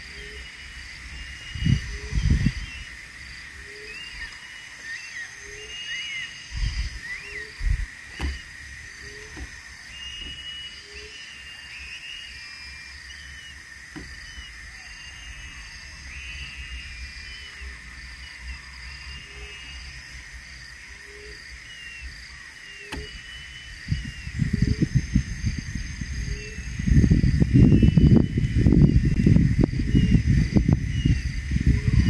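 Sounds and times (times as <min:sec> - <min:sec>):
high insect drone: 0:00.0 - 0:32.0
bird chirps: 0:03.6 - 0:20.2, 0:20.8 - 0:32.0.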